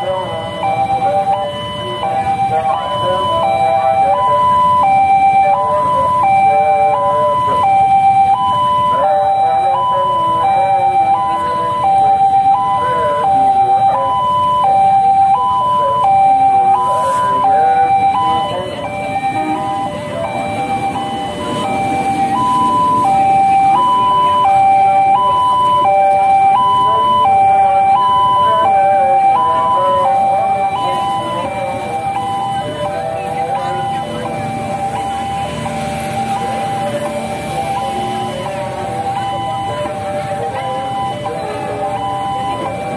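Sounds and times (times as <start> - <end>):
level crossing two-tone alarm: 0.0 - 42.9.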